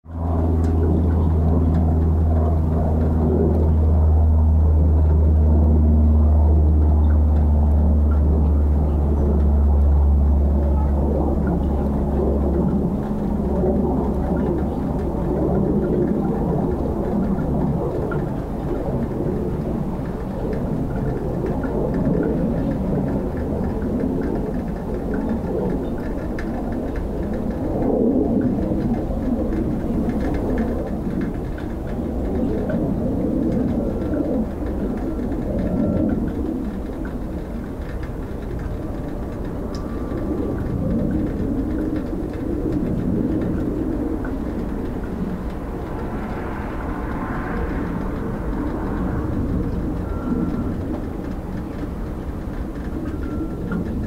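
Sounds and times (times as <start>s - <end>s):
jet engine passing overhead: 0.0s - 54.0s
low steady hum: 0.0s - 54.0s.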